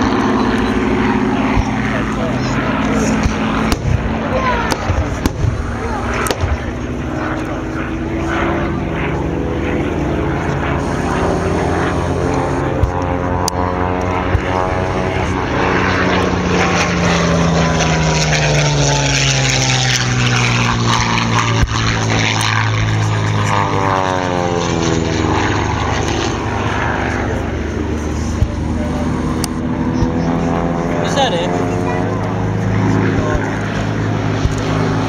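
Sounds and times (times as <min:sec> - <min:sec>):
aircraft approaching: 0:00.0 - 0:35.0
propeller plane engine passing overhead: 0:00.0 - 0:35.0.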